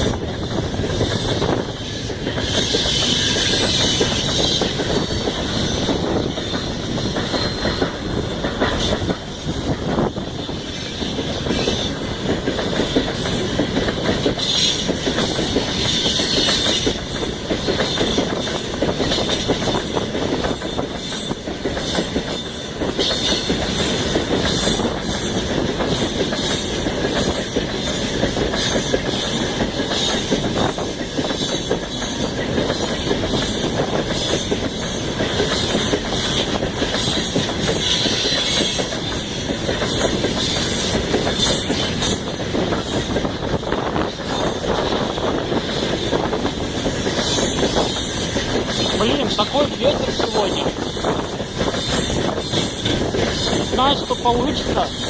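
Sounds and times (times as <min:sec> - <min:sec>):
train wheels squealing: 0:00.0 - 0:55.0
wheels clattering over rail joints: 0:00.0 - 0:55.0.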